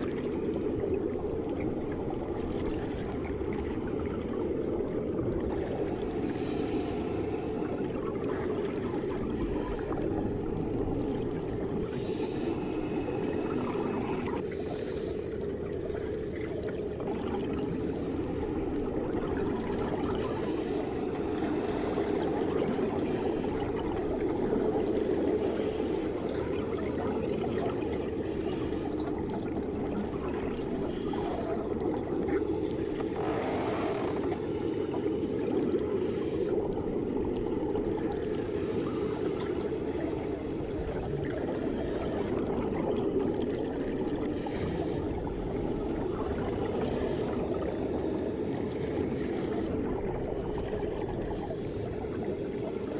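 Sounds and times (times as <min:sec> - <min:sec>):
underwater rush of water: 0:00.0 - 0:52.9.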